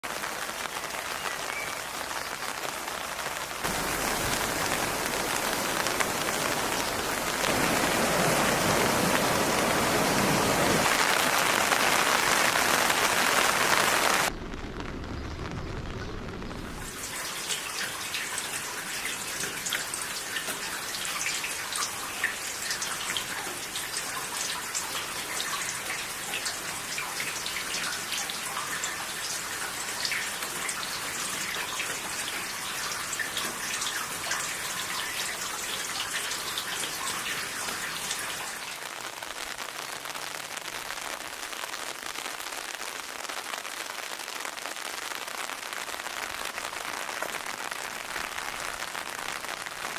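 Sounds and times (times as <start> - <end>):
rain pattering on hard surface: 0.0 - 49.9.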